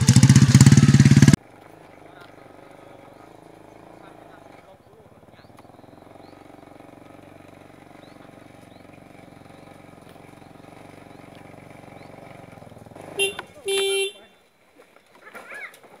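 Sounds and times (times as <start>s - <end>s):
small motorcycle engine running: 0.0s - 14.3s
birds chirping: 0.0s - 16.0s.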